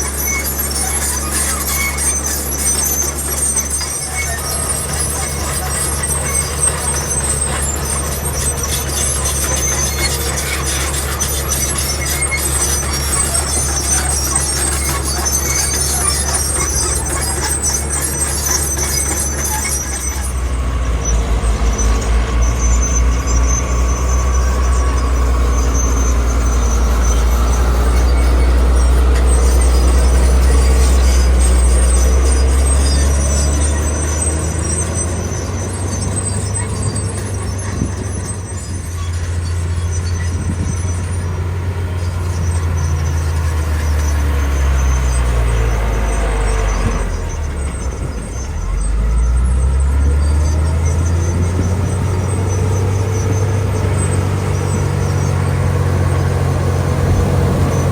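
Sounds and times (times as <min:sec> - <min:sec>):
diesel machine engine droning: 0:00.0 - 0:57.9
high-pitched squealing: 0:00.0 - 0:57.9.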